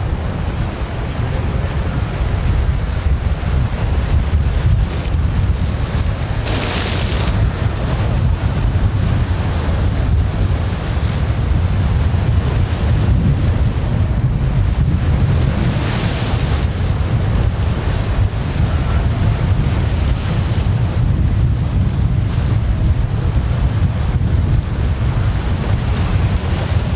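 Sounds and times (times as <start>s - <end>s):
hissing wind gusts: 0.0s - 26.9s
wind buffeting microphone: 0.0s - 26.9s.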